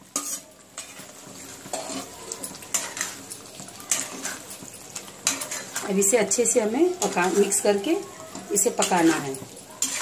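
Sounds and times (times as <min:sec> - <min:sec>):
faint sizzle of frying: 0:00.0 - 0:10.0
metal spatula scraping a pan: 0:00.0 - 0:10.0.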